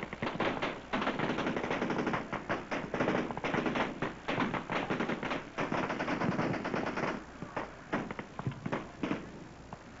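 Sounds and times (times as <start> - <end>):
gunshots: 0.0 - 9.3.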